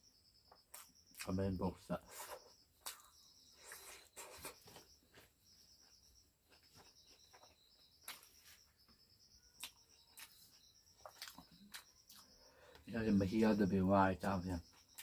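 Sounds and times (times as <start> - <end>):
insect chirping trills: 0.0 - 15.0.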